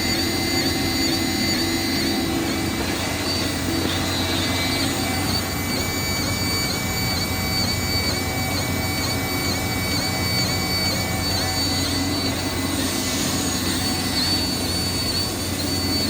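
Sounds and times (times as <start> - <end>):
high whining tones: 0.0 - 16.0
machinery hum: 0.0 - 16.0.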